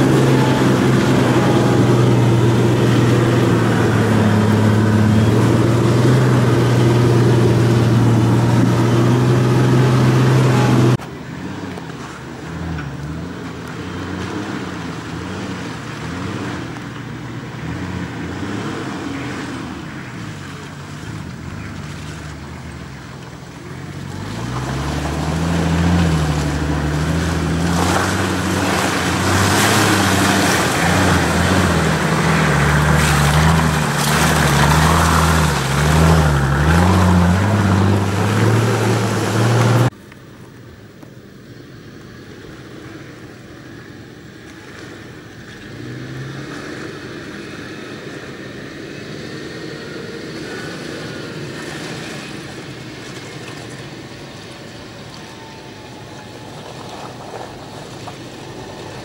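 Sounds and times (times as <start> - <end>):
distant off-road vehicle engine: 0.0 - 59.0
suv engine working hard: 0.0 - 59.0.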